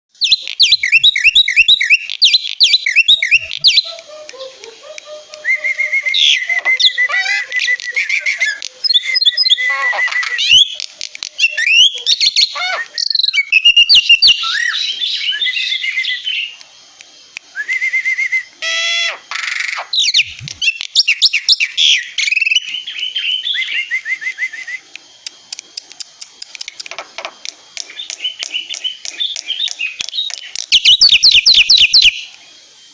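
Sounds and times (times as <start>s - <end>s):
bird whistling and chattering song: 0.1s - 16.6s, 17.5s - 24.9s, 27.9s - 32.3s.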